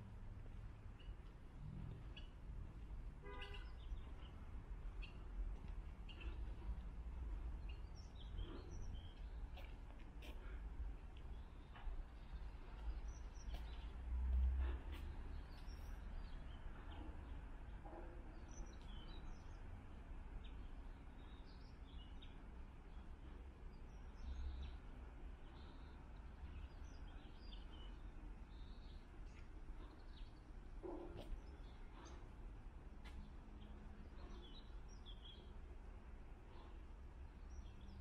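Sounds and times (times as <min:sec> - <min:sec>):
small birds chirping: 0:03.5 - 0:38.0.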